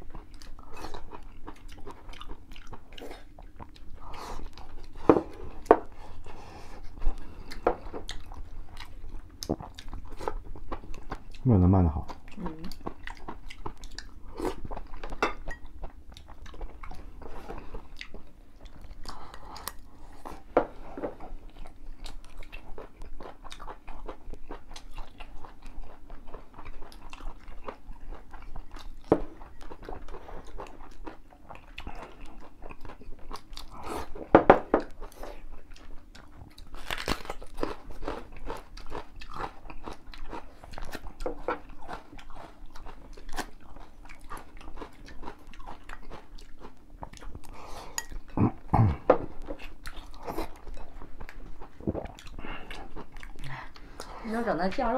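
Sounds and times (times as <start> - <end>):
crunching and chewing food: 0.0 - 54.9.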